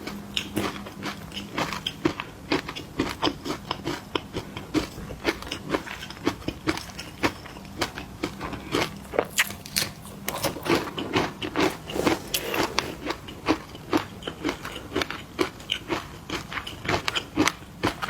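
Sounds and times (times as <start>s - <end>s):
crunchy snacks being chewed: 0.0s - 18.0s.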